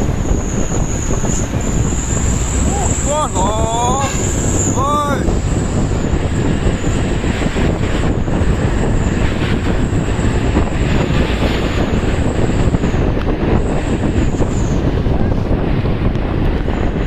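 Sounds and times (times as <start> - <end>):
high whine: 0.0 - 16.2
heavy truck engine rumble: 0.0 - 17.0.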